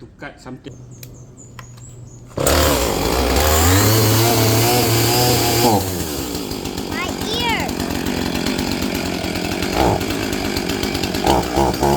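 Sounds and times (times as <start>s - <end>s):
chainsaw running: 0.8s - 11.9s.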